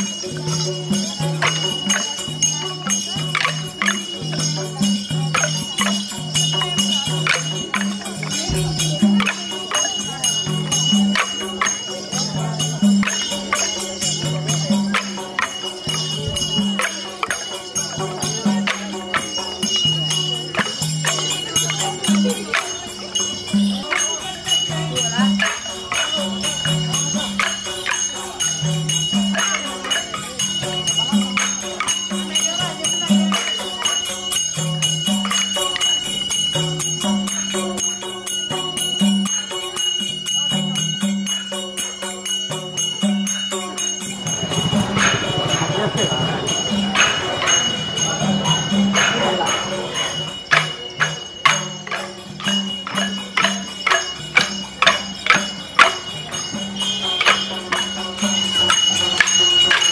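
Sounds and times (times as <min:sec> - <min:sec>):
hand cymbals ringing: 0:00.0 - 0:59.9
jingling bells: 0:00.0 - 0:59.9.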